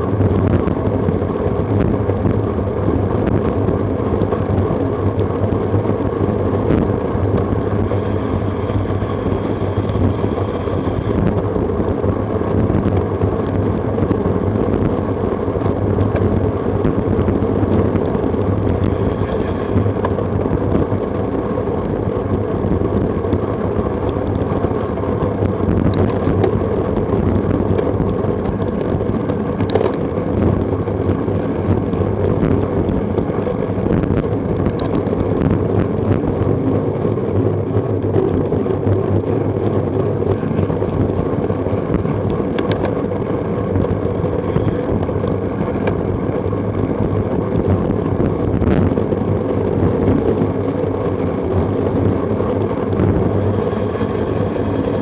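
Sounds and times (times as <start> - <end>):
road noise: 0.0 - 55.0
wind rushing on microphone: 0.0 - 55.0.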